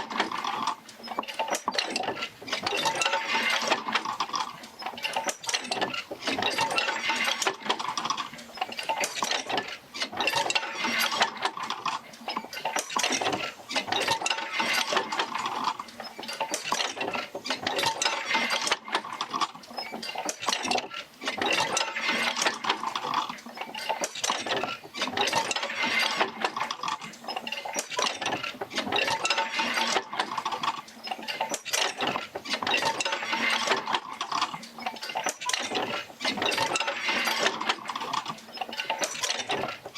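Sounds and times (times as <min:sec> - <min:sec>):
metallic clinking and creaking: 0:00.0 - 0:39.9.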